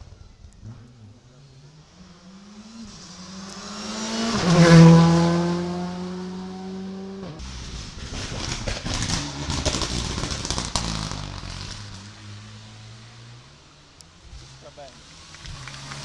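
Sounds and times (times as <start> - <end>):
rally car engine revving past: 0.6 - 13.6.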